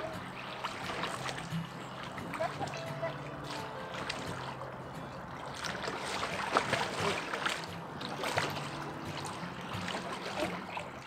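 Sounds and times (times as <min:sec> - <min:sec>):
moving river water: 0:00.0 - 0:11.0
water splashing: 0:00.0 - 0:11.0.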